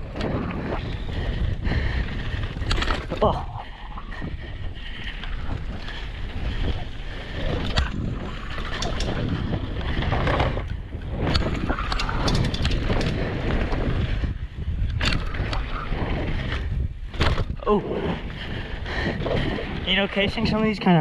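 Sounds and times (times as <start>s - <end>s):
bike clacks and rattles: 0.0s - 20.8s
tyres rumbling on dirt: 0.0s - 21.0s
wind rushing over microphone: 0.0s - 21.0s.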